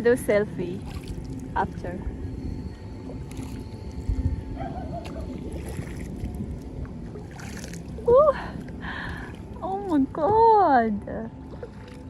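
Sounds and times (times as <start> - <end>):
low rumbling wind: 0.0 - 12.0
water noise: 0.0 - 12.0.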